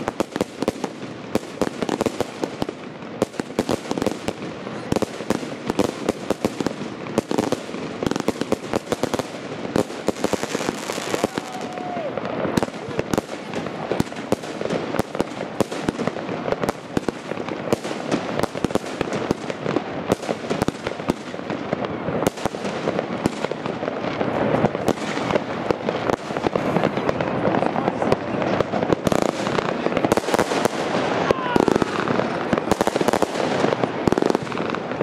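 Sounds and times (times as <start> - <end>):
fireworks bangs pops and crackle: 0.0 - 35.0.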